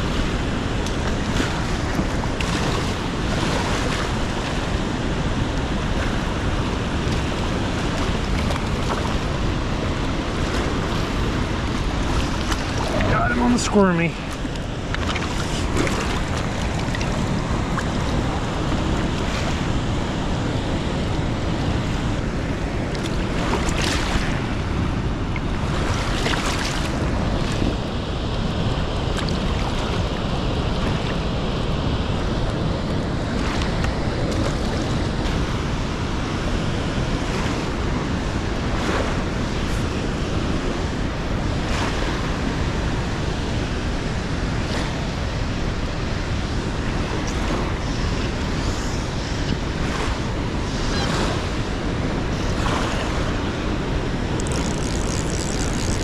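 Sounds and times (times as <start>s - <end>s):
river rushing: 0.0s - 56.0s
water splashes: 0.0s - 56.0s.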